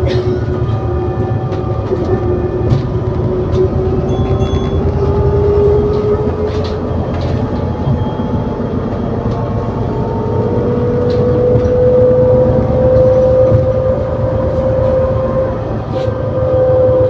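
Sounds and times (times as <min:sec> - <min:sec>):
bus engine and drivetrain noise: 0:00.0 - 0:17.0
rising gearbox whine: 0:00.0 - 0:17.0.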